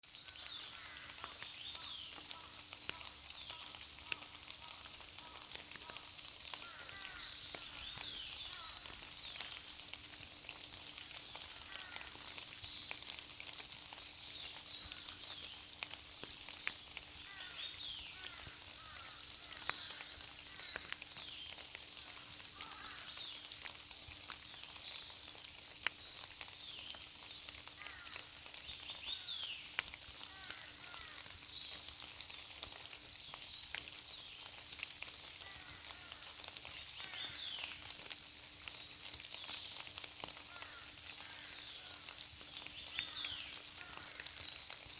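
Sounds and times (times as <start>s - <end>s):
forest birds chirping: 0.0s - 44.9s
light rain hiss: 0.0s - 44.9s
water drips ticking: 0.2s - 44.9s.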